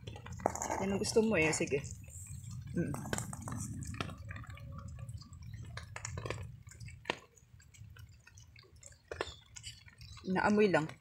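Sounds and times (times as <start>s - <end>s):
cat eating from metal bowl: 0.0s - 11.0s
rainwater dripping: 0.0s - 11.0s.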